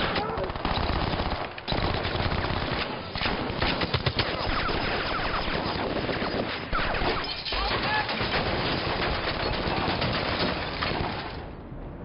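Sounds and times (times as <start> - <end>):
automatic gunfire: 0.0 - 11.2
rifle shots: 0.0 - 11.3.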